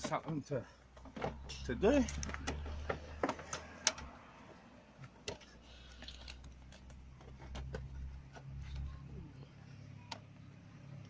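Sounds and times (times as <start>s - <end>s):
hands handling car parts: 0.0s - 9.0s.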